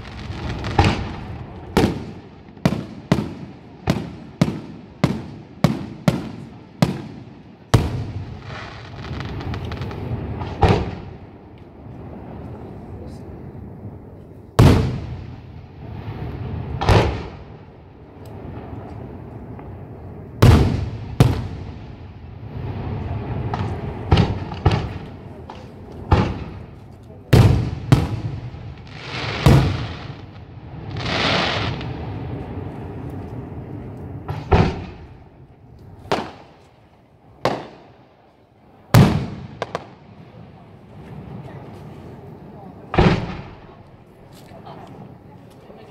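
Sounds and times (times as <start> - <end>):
firework hissing crackle: 0.0 - 45.3
firework bangs: 0.0 - 45.8.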